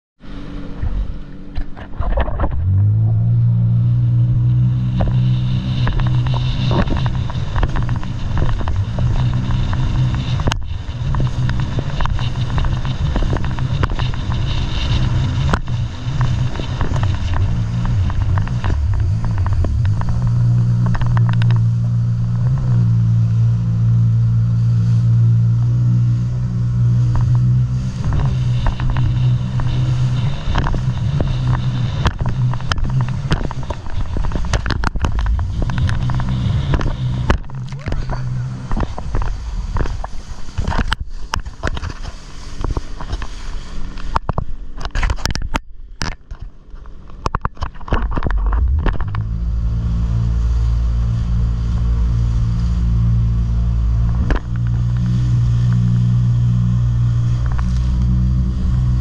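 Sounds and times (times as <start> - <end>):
jet ski engine droning: 0.2 - 59.0
water splashing against hull: 0.2 - 59.0
wind on microphone: 0.6 - 45.7, 47.2 - 59.0.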